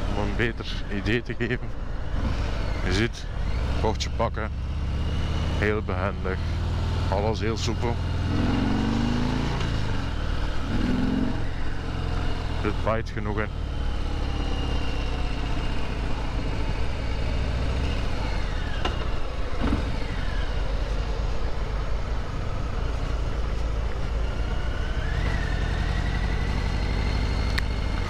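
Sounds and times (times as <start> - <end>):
motorcycle engine running: 2.1 - 28.0.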